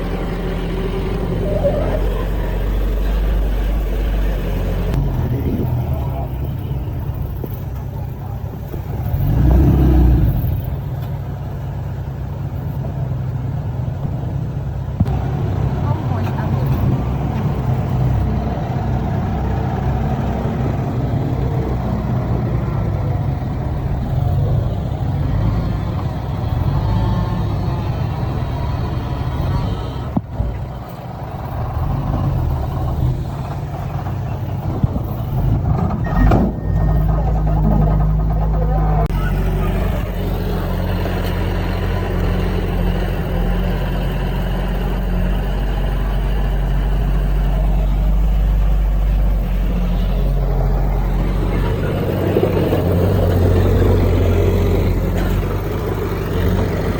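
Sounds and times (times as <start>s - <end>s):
heavy diesel machinery rumbling: 0.0s - 56.9s.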